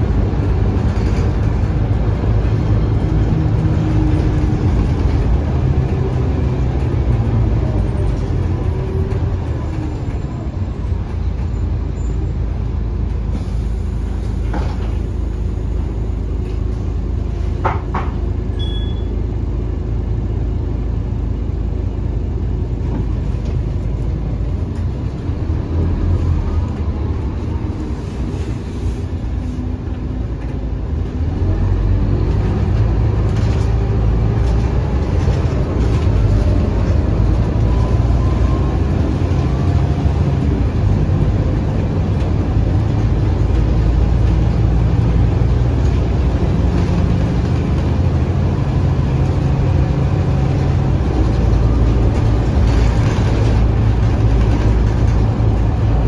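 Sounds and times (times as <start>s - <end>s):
bus diesel engine from inside: 0.0s - 56.0s.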